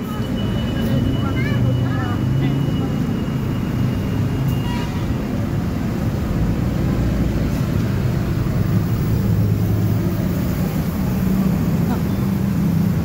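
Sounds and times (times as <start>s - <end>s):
heavy city traffic rumble: 0.0s - 13.0s.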